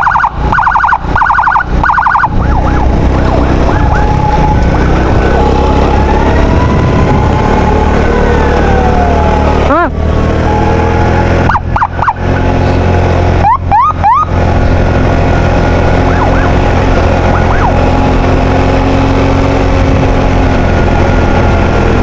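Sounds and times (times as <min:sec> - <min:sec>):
ambulance siren whooping: 0:00.0 - 0:22.0
vehicle engine drone: 0:00.0 - 0:22.0.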